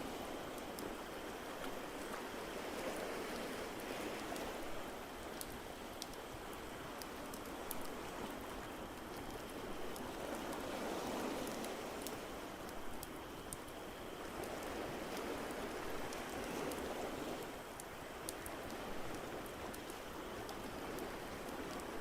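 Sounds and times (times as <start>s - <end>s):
rushing water: 0.0s - 22.0s
wood fire crackles: 0.1s - 22.0s.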